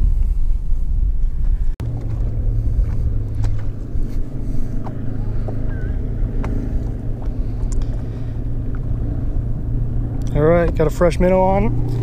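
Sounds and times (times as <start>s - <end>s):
wind: 0.0s - 12.0s
boat motor humming: 1.8s - 12.0s.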